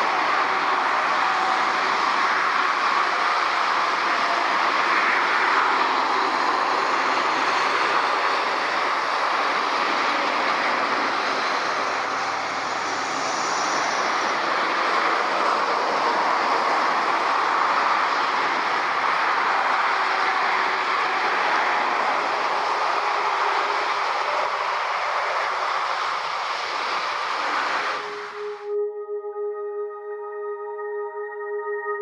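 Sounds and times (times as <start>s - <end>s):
motorway traffic roar: 0.0s - 28.6s.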